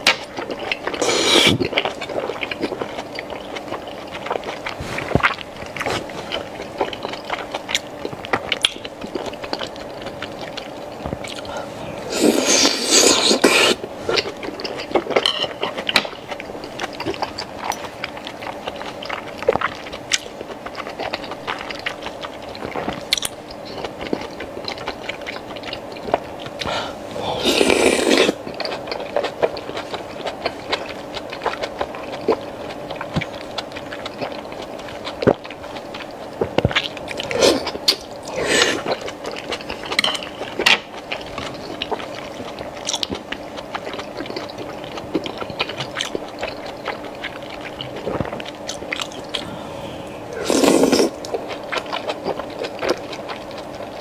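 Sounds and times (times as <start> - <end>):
faint steady hum: 0.0 - 54.0
wet chewing and smacking: 0.0 - 54.0.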